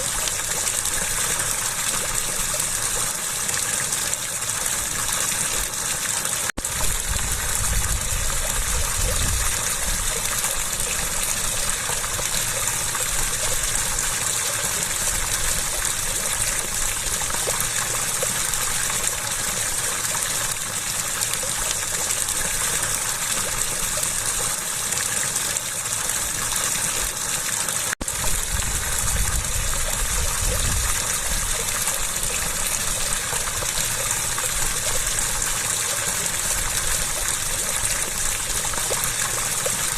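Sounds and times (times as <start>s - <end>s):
running water gushing: 0.0s - 39.9s.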